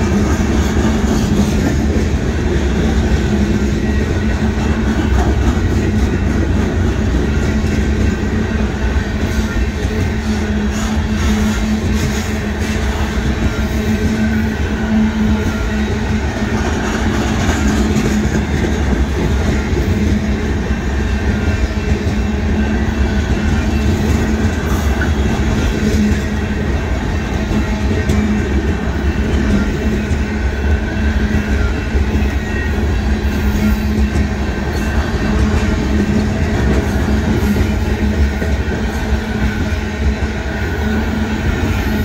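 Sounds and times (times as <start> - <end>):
steel train wheels on rails: 0.0 - 42.0.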